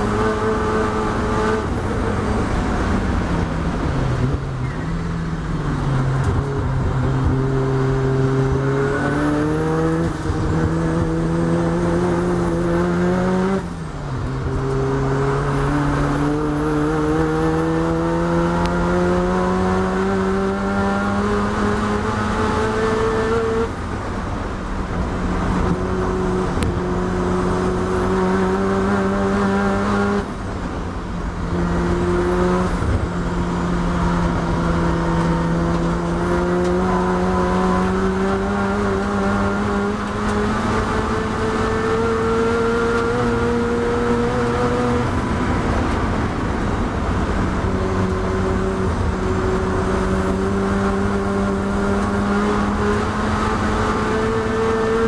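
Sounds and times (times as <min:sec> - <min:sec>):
rotary engine at full throttle: 0:00.0 - 0:55.0.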